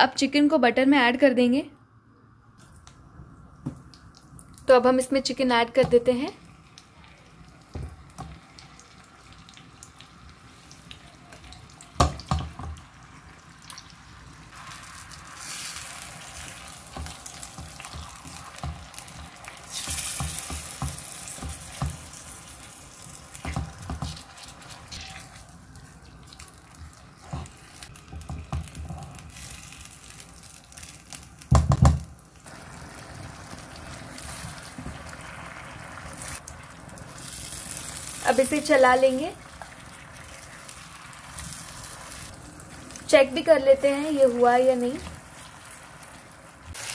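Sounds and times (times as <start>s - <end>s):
chicken sizzling in a pan: 6.4s - 46.9s.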